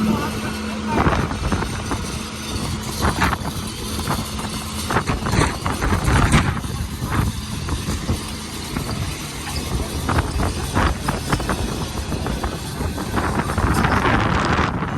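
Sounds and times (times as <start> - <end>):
heavy vehicle engine rumbling: 0.0 - 14.9
wind on microphone: 0.0 - 14.9.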